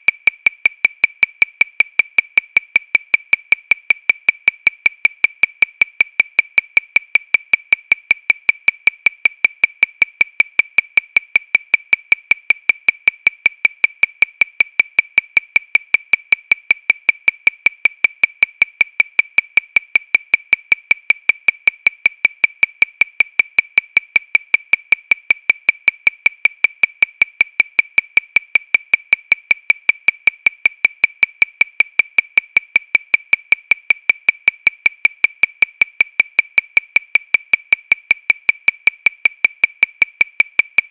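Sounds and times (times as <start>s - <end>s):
metronome clicking: 0.0s - 40.9s.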